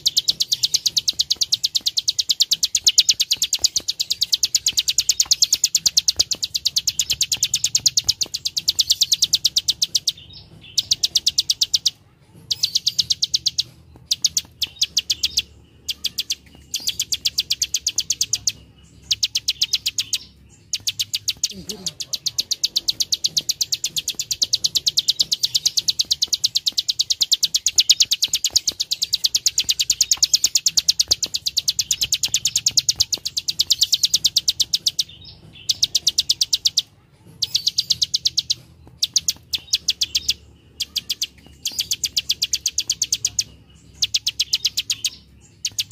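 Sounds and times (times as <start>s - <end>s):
bird giving sharp clicking calls: 0.0s - 45.9s.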